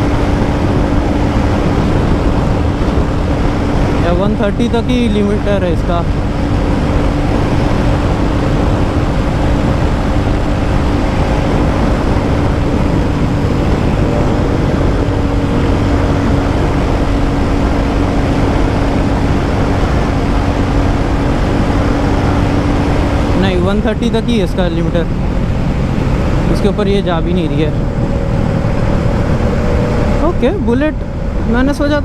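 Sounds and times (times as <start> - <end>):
motorcycle engine at full throttle: 0.0 - 32.0
wind rush on microphone: 0.0 - 32.0.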